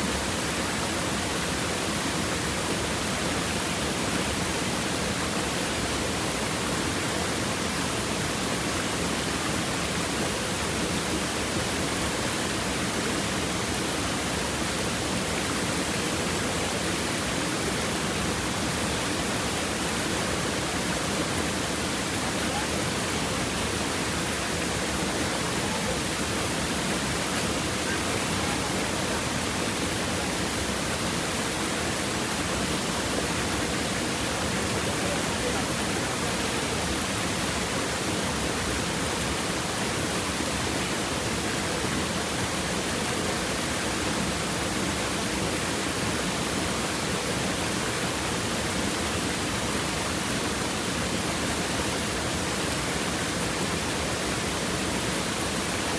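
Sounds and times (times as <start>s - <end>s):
stream water rushing over rocks: 0.0s - 55.9s.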